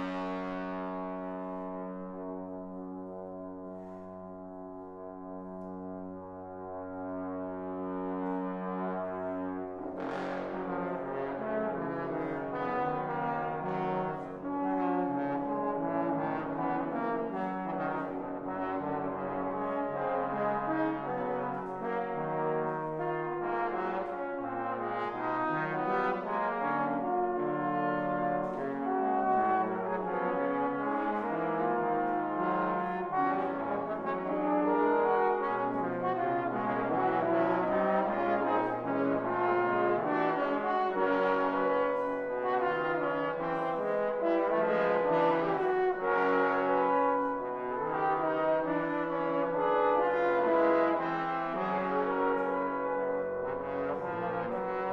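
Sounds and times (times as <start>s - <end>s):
trombone quartet playing: 0.0s - 54.9s.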